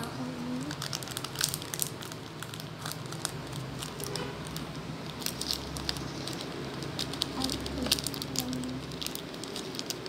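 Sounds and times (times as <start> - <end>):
plastic packet crinkling: 0.4 - 10.0.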